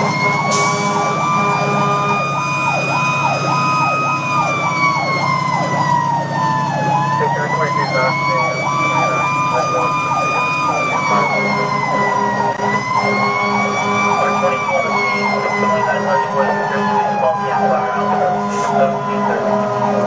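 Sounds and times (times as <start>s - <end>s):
fire engine siren wail: 0.0s - 20.0s
fire engine siren yelp: 0.0s - 20.0s
truck engine droning: 0.0s - 20.0s.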